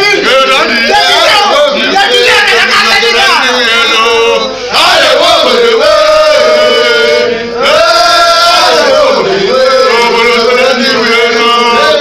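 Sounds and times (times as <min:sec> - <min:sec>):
men singing a chant: 0:00.0 - 0:12.0.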